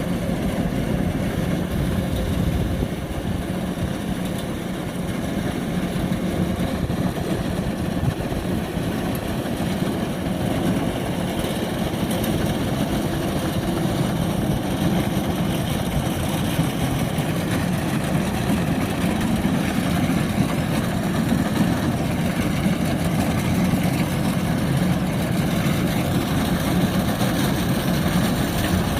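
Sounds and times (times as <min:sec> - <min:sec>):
combine harvester diesel drone: 0:00.0 - 0:28.9.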